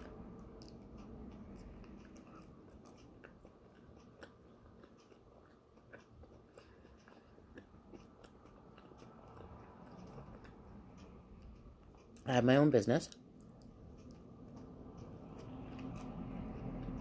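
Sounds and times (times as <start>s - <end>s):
faint close-up chewing: 0.0s - 12.3s, 13.1s - 17.0s.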